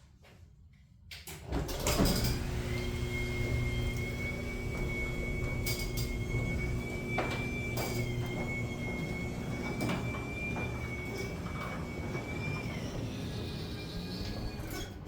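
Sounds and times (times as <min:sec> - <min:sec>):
garage door opener motor hum: 0:01.4 - 0:15.0.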